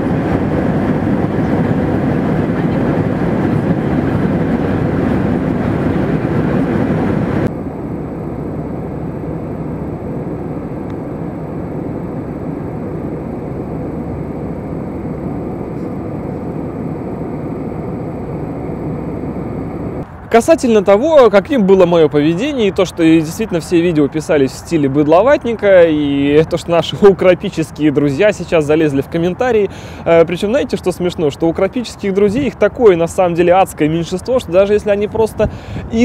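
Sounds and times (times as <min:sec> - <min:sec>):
airliner cabin noise: 0:00.0 - 0:36.0.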